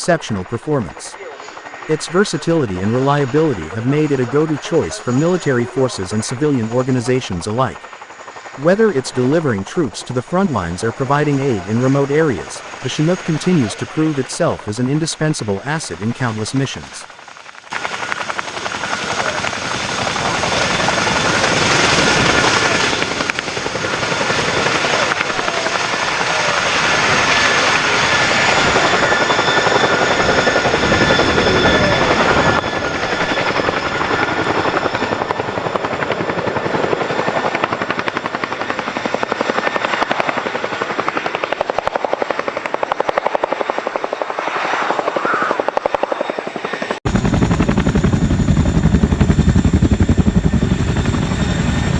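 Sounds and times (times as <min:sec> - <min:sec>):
helicopter rotor chop: 0:00.0 - 0:51.9
high turbine whine: 0:00.0 - 0:51.9.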